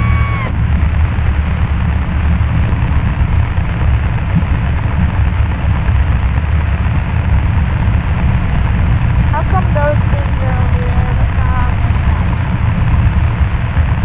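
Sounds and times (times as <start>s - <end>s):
airplane engine drone in cabin: 0.0s - 14.0s.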